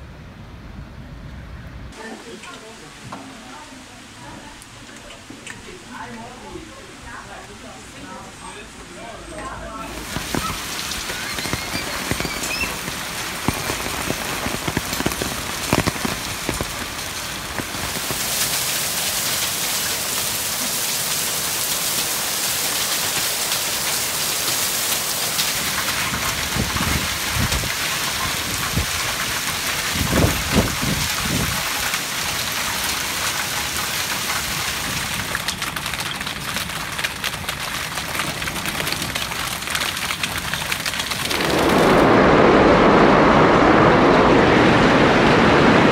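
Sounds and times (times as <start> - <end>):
hail and heavy rain pelting: 9.0 - 45.9.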